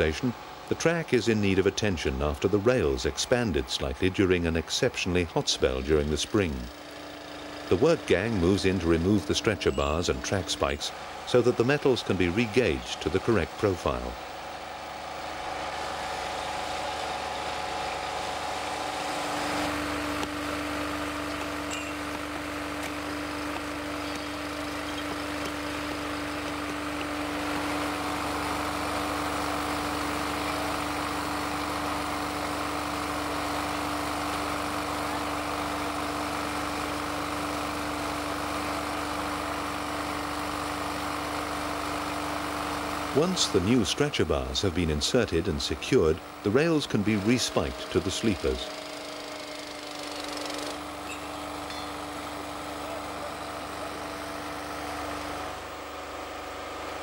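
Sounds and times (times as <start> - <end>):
small petrol engine running: 0.0 - 57.0.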